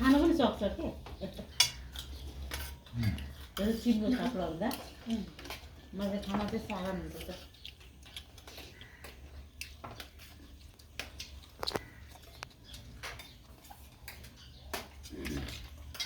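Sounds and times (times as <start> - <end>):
chewing clicks and smacks: 1.5 - 16.0.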